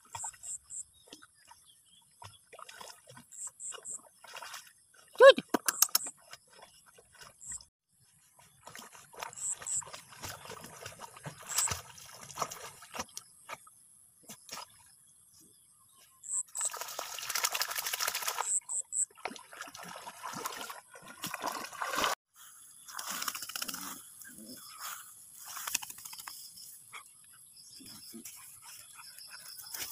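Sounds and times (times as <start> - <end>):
dogs splashing in pond water: 0.0 - 15.0, 16.2 - 22.2, 22.8 - 26.6.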